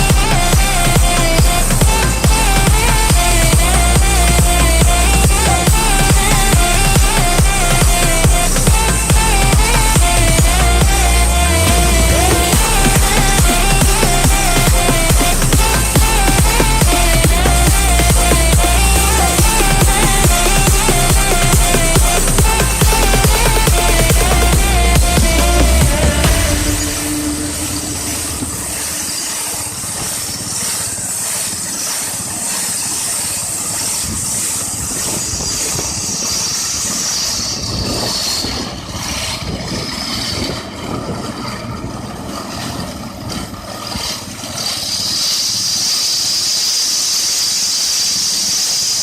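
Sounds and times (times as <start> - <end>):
rail grinder squealing: 0.0 - 49.0.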